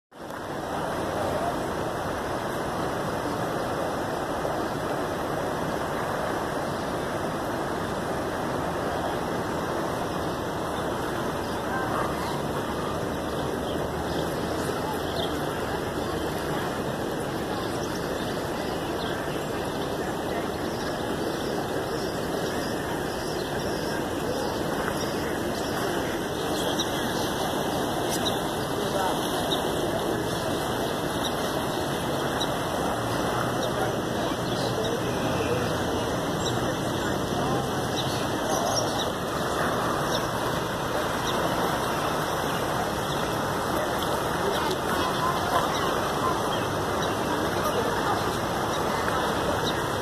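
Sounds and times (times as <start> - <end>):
floodwater rushing: 0.1 - 50.0.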